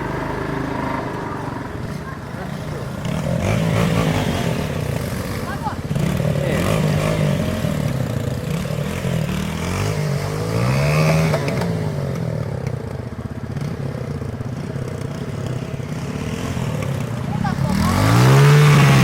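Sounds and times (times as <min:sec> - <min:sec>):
small engine revving: 0:00.0 - 0:19.0.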